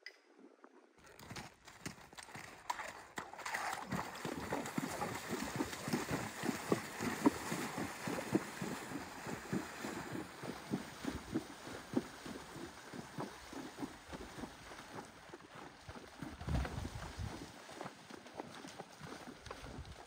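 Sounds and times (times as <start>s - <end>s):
hooves splashing through water: 1.0s - 20.0s.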